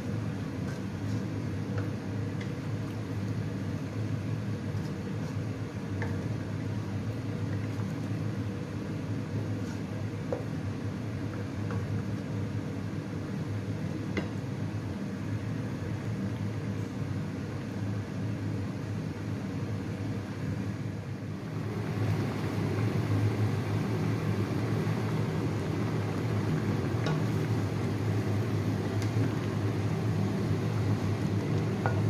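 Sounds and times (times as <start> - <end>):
kitchen appliance hum: 0.0 - 32.0.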